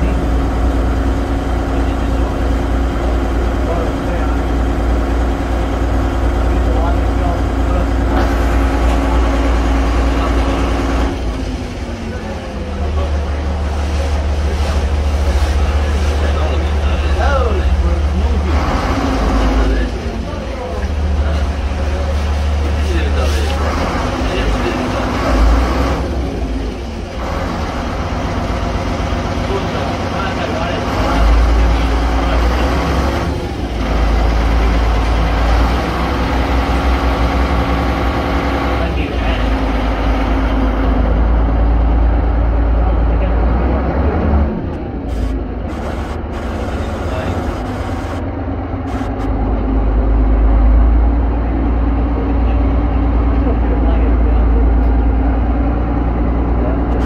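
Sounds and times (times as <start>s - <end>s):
boat diesel engine drone: 0.0s - 57.0s
water noise: 0.0s - 57.0s.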